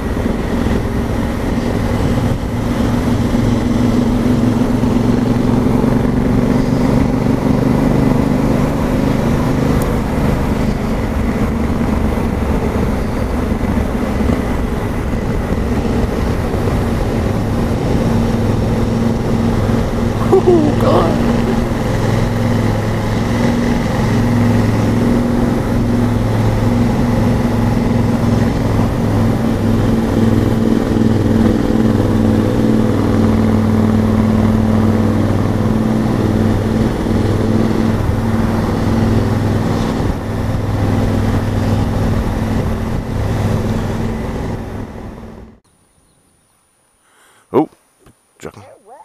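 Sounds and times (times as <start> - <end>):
motorcycle engine running: 0.0 - 45.3.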